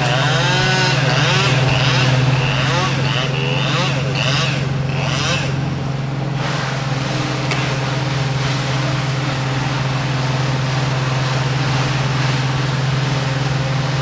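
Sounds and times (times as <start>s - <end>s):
heavy machinery engine droning: 0.0s - 14.0s.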